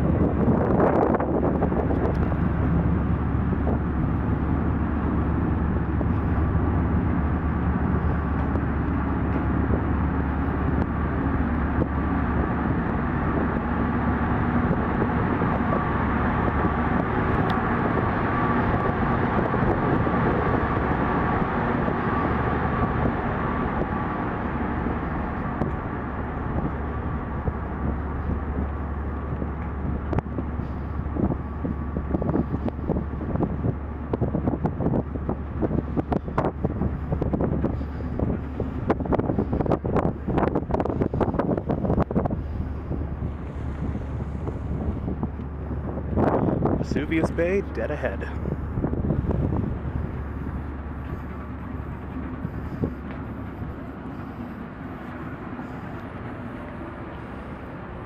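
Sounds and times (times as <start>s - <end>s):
faint steady whine: 0.0s - 58.0s
ship engines droning: 0.0s - 58.0s.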